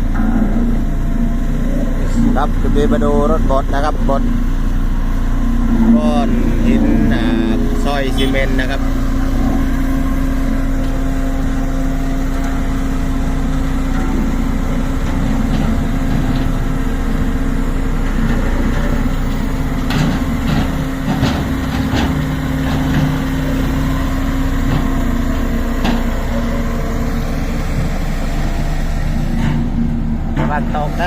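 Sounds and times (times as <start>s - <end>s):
road roller diesel engine humming: 0.0s - 31.0s.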